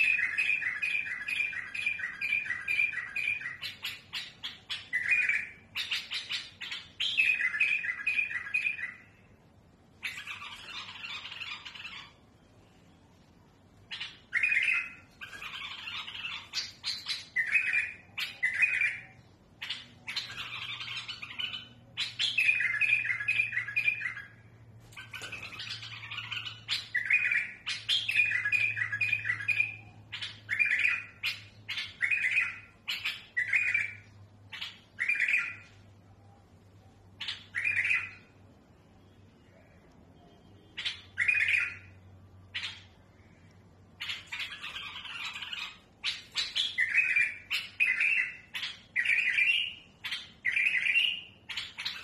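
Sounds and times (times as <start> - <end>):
bulbul singing: 0.0 - 52.0.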